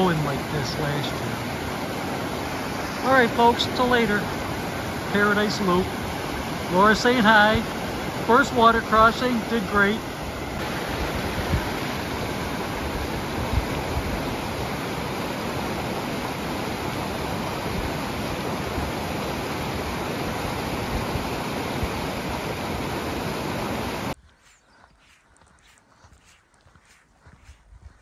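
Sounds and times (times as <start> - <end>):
creek rushing over rocks: 0.0 - 24.2.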